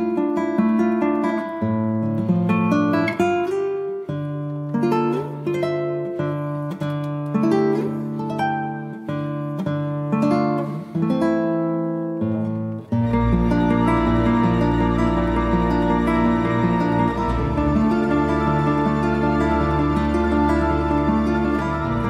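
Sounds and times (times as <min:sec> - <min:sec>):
plucked acoustic guitar melody: 0:00.0 - 0:22.0.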